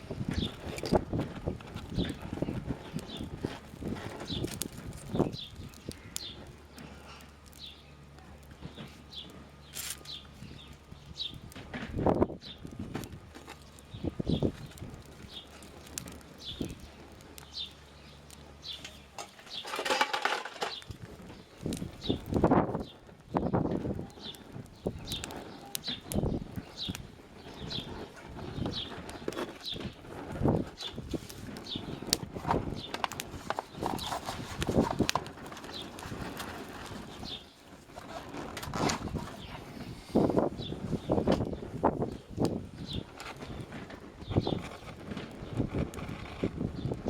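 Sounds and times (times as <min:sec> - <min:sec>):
fire pops: 0:00.0 - 0:47.0
twig stove crackling: 0:00.0 - 0:47.0.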